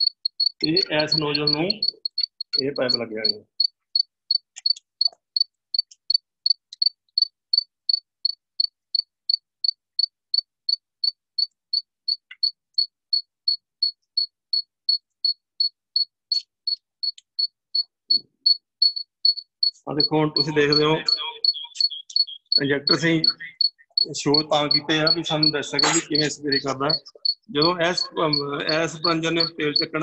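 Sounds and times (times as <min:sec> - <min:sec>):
cricket chirping: 0:00.0 - 0:30.0.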